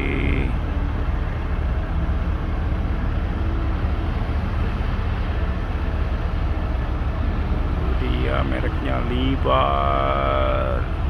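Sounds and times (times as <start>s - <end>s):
excavator engine rumbling: 0.0s - 11.0s.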